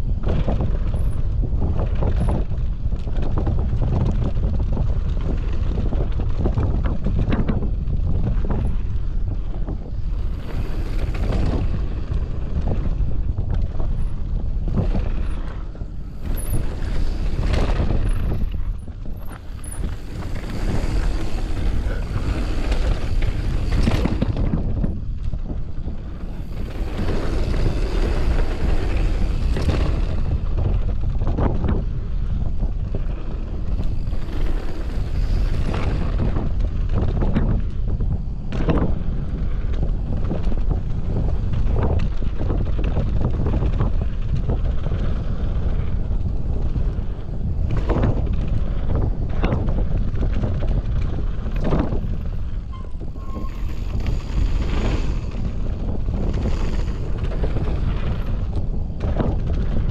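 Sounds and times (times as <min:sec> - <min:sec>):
bike knocks and rattles: 0:00.0 - 0:59.9
bike tyres rolling on dirt: 0:00.0 - 0:59.9
wind buffeting microphone: 0:00.0 - 0:59.9.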